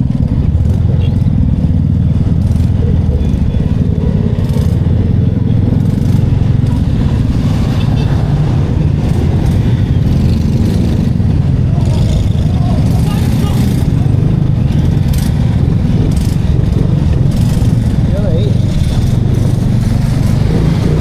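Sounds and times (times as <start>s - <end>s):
motorcycle engine rumble: 0.0s - 21.0s
wind noise on microphone: 0.0s - 21.0s.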